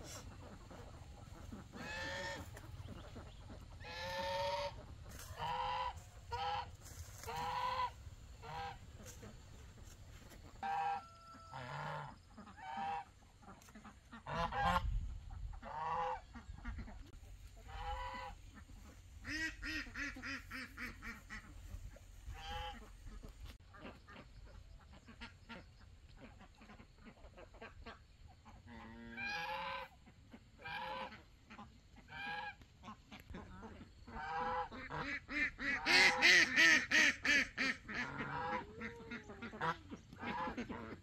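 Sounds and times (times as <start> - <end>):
geese honking: 0.0 - 14.8, 15.6 - 24.1, 28.7 - 30.0, 30.6 - 41.0.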